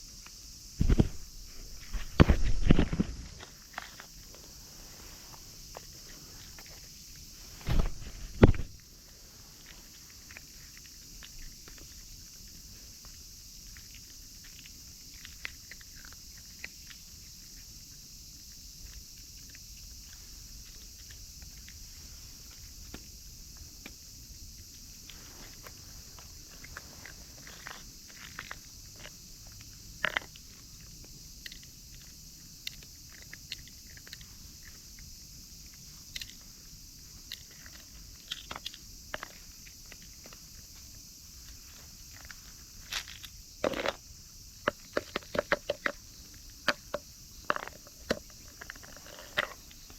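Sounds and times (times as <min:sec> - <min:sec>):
steady high hiss: 0:00.0 - 0:49.9
cats crunching dry food: 0:01.0 - 0:04.7, 0:05.3 - 0:49.9.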